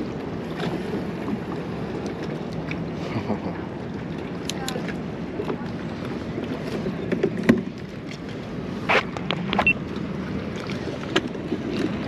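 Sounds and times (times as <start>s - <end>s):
water around kayak: 0.0s - 12.0s
wind: 0.0s - 12.0s.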